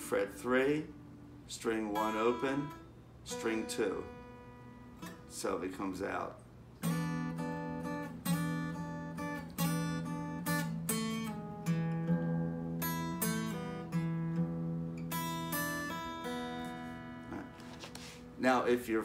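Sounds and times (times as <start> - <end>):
fingerstyle acoustic guitar blues: 0.0 - 18.4.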